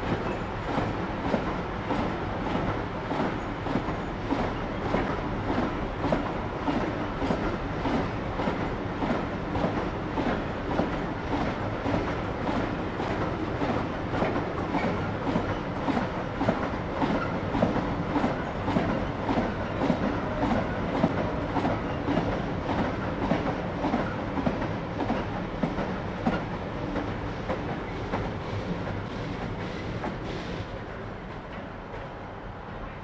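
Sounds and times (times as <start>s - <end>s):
train wheels clattering over rail joints: 0.0s - 30.7s.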